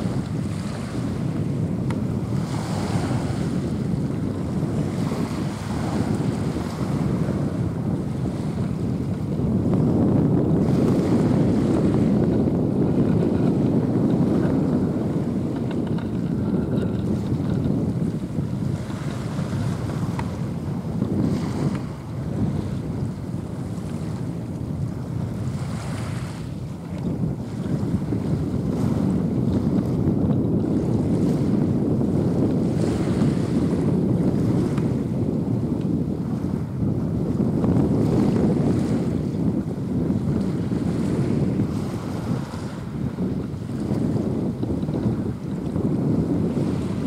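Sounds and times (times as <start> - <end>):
wind blowing across microphone: 0.0 - 47.0.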